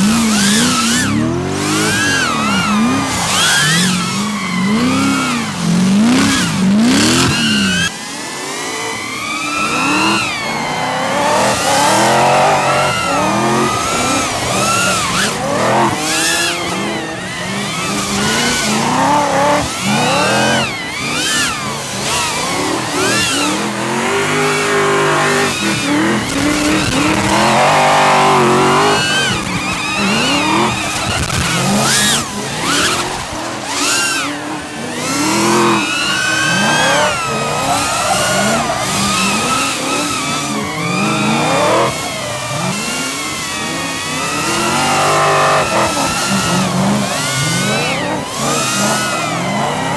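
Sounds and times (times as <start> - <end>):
car engines revving: 0.0 - 49.9
tyres squealing and skidding: 0.0 - 49.9.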